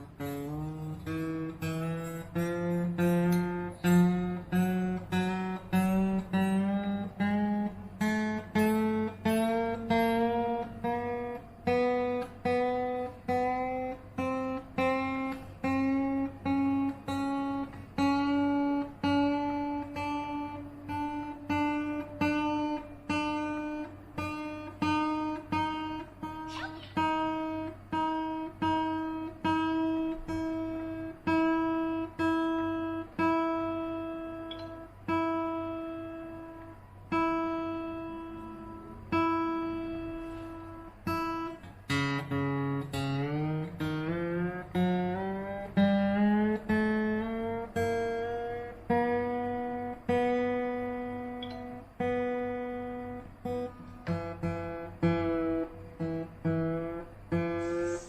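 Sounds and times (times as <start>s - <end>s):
acoustic guitar notes: 0.0s - 58.0s.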